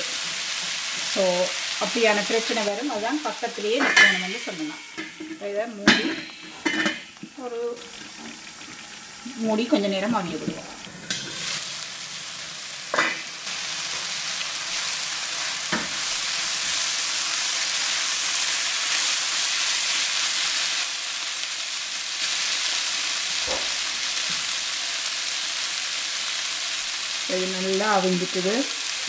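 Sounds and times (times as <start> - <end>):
curry sizzling in a pan: 0.0 - 29.0.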